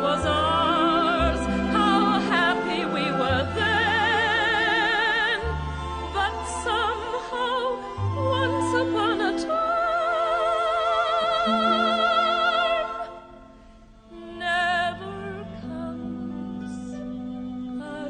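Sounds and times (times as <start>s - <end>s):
orchestral accompaniment: 0.0s - 18.0s.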